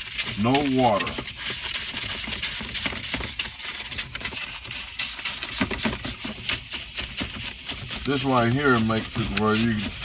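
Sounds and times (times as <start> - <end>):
brush scrubbing plastic: 0.0 - 10.0.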